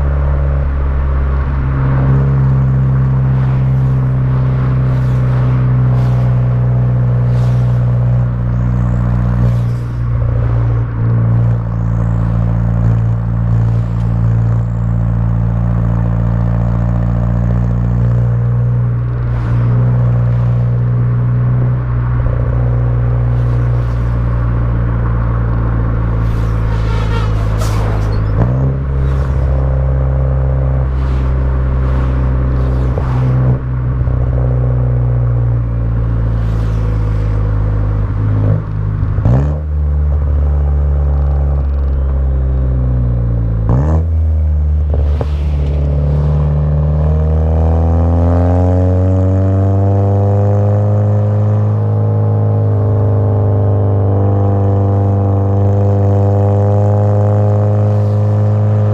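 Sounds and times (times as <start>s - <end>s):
car exhaust with gear changes: 0.0s - 58.9s.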